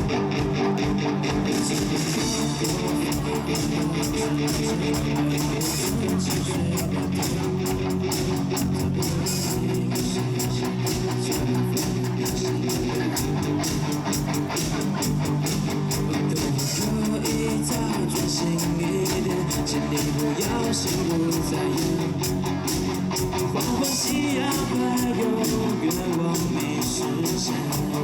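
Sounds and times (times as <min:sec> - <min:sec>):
bass guitar: 0:00.0 - 0:28.0
drums and cymbals: 0:00.0 - 0:28.0
strummed electric guitars: 0:00.0 - 0:28.0.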